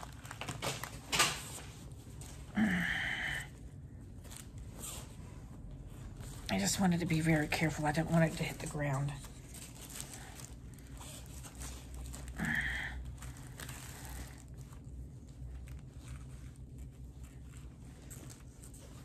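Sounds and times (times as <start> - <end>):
packaging rustling and crinkling: 0.0 - 2.5, 4.0 - 19.0.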